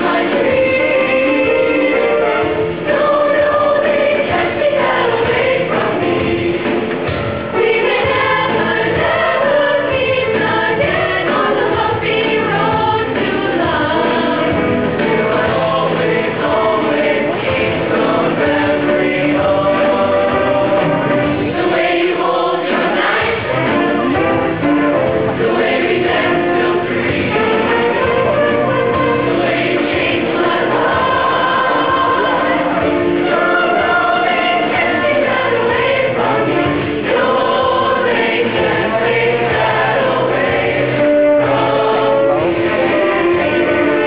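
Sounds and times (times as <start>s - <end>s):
choir singing chords: 0.0s - 44.0s.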